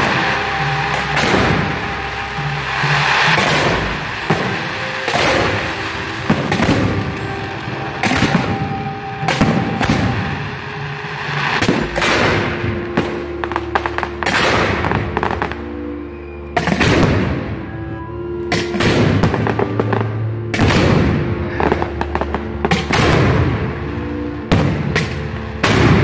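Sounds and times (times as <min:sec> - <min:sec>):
firework shots banging: 0:00.0 - 0:15.7, 0:16.6 - 0:17.6, 0:18.5 - 0:23.8, 0:24.5 - 0:26.0
crackling firework reports: 0:00.0 - 0:17.8, 0:18.6 - 0:26.0.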